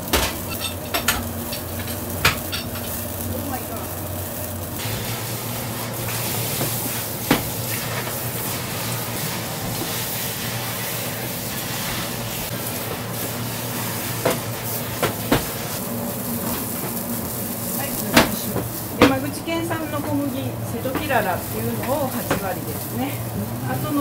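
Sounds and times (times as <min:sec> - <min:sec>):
kitchen ventilation hum: 0:00.0 - 0:24.0.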